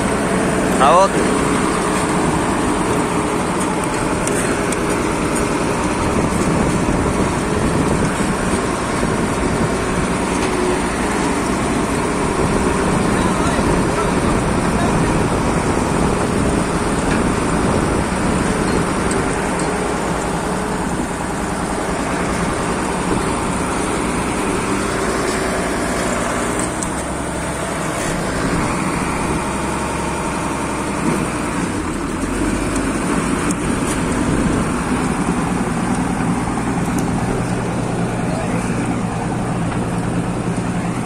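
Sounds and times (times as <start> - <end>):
road roller diesel engine: 0.0 - 41.0.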